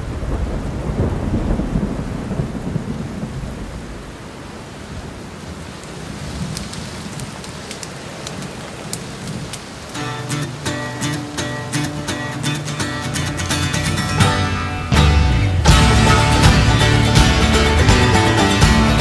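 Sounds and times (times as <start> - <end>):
thunder rumbling: 0.0 - 10.4, 12.8 - 19.0
heavy rain: 0.0 - 19.0.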